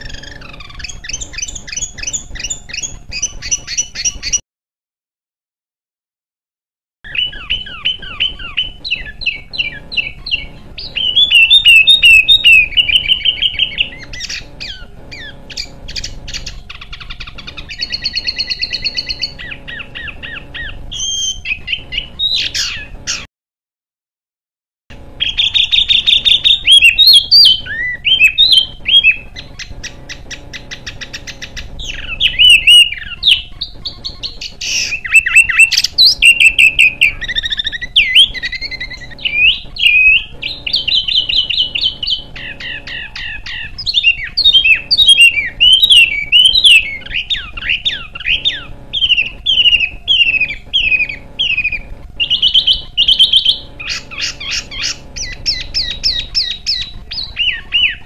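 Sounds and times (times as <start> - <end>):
songbird chirping and trilling: 0.0 - 4.4, 7.1 - 23.3, 24.9 - 58.0.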